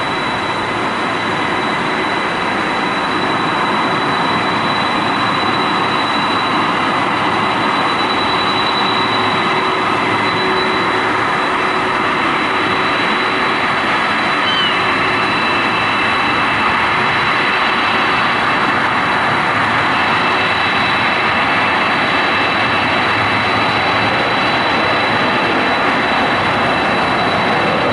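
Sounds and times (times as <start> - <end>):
jet engines running: 0.0 - 27.9.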